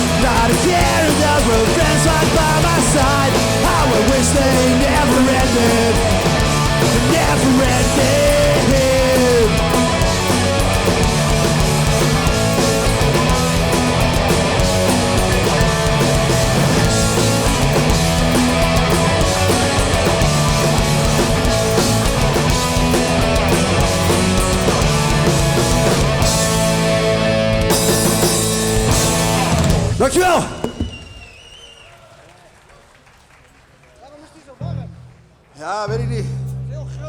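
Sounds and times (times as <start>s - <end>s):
punk band playing live: 0.0s - 31.4s.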